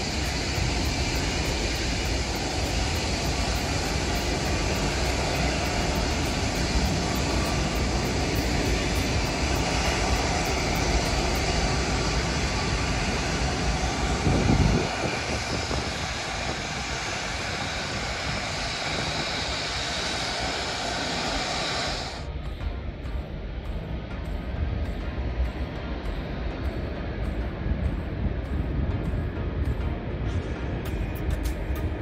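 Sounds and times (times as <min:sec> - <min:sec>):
heavy low rumble: 0:00.0 - 0:32.0
jet engines roaring: 0:00.0 - 0:32.0.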